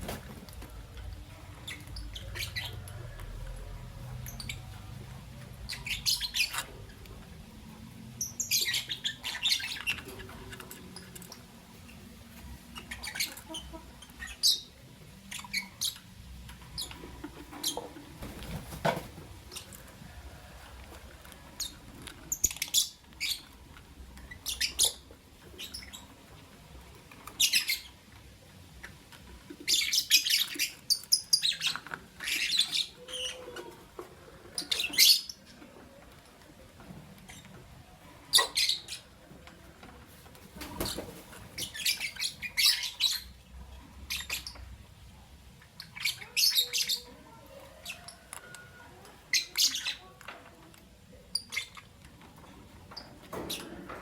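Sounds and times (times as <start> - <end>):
lovebirds chirping: 0.0 - 18.8, 19.4 - 36.0, 37.2 - 39.6, 40.6 - 50.2, 51.1 - 52.2.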